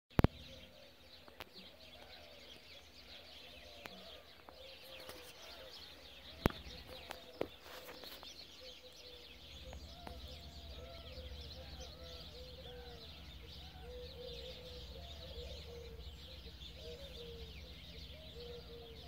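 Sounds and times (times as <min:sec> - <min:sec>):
birds singing and chirping: 0:00.1 - 0:19.0
lower bird call: 0:00.2 - 0:19.0.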